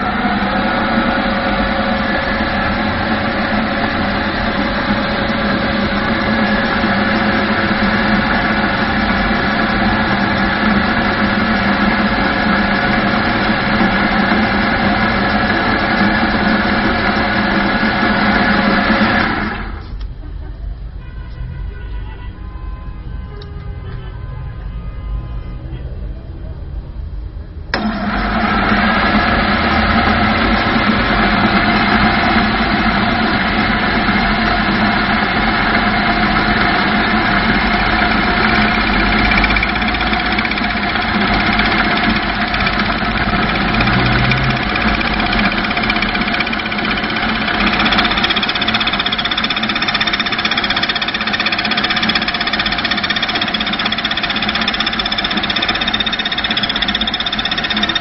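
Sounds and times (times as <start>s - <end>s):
machine tool humming with whine: 0.0s - 20.1s, 27.7s - 58.0s
high-pitched whine: 0.0s - 20.9s, 23.3s - 58.0s.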